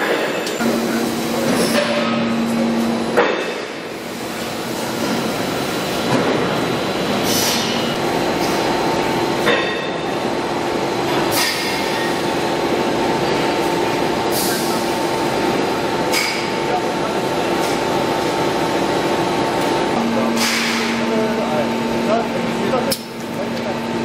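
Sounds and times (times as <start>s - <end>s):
dense machine noise: 0.0s - 24.0s
steady hum: 0.4s - 24.0s.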